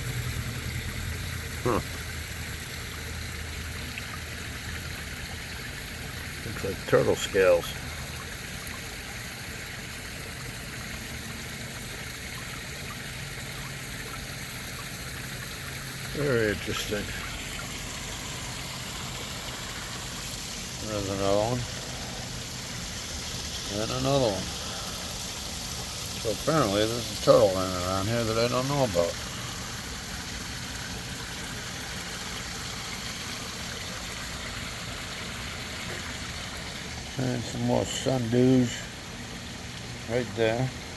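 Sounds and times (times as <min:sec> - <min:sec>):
pond water trickling: 0:00.0 - 0:40.9.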